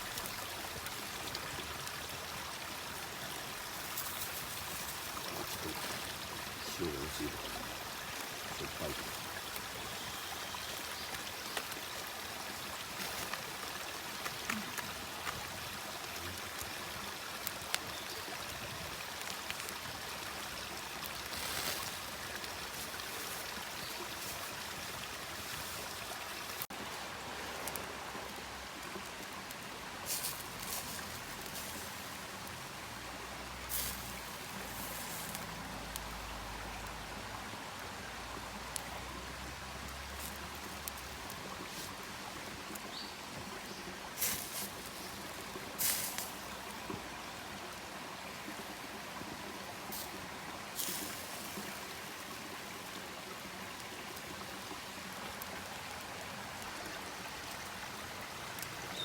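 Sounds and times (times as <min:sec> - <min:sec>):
campfire hissing and crackling: 0:00.0 - 0:59.0.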